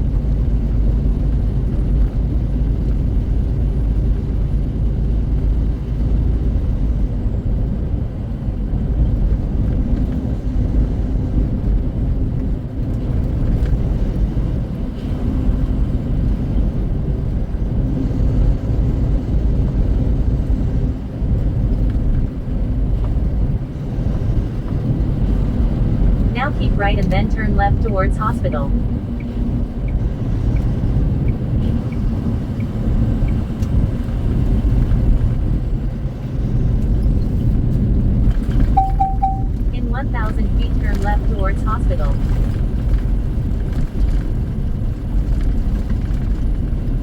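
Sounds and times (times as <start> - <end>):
truck engine and road rumble: 0.0 - 47.0.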